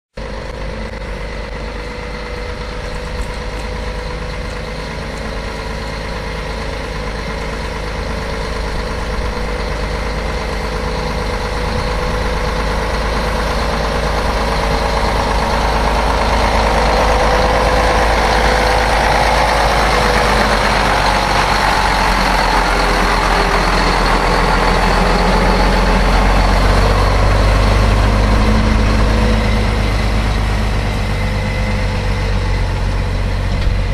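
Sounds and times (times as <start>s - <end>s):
truck diesel engine running: 0.1s - 33.9s.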